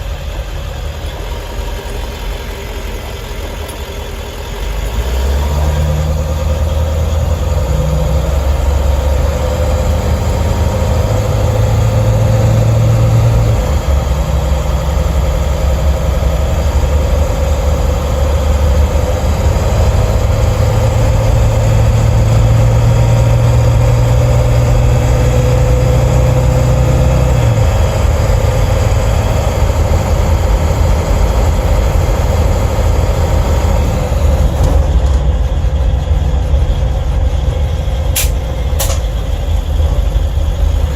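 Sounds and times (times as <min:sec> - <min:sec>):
diesel engine drone inside cab: 0:00.0 - 0:40.9.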